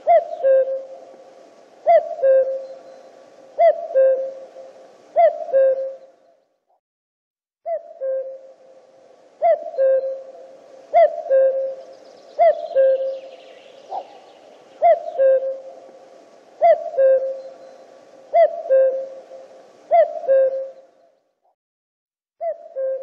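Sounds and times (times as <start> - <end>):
cuckoo calling: 0.0 - 6.4, 7.7 - 21.2, 22.4 - 23.0.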